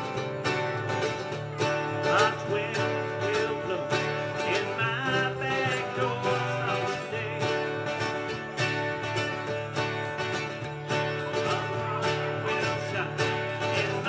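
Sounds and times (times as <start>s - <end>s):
strummed acoustic guitars: 0.0s - 14.0s.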